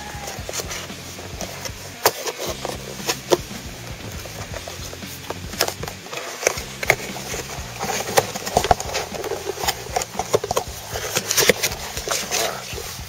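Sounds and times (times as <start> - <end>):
cardboard box scraping and rustling: 0.0 - 13.0.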